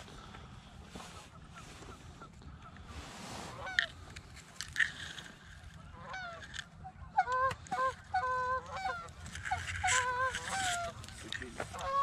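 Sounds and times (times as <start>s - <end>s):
geese honking: 0.2s - 4.1s, 4.8s - 12.0s.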